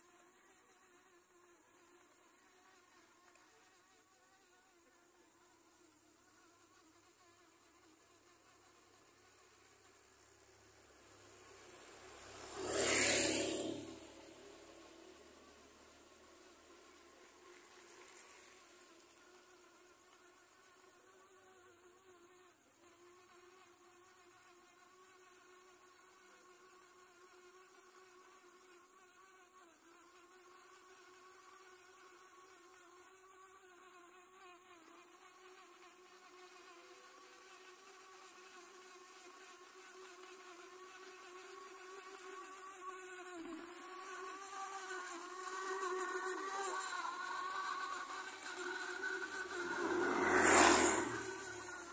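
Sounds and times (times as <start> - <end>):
small electric motors whining: 0.0 - 51.9.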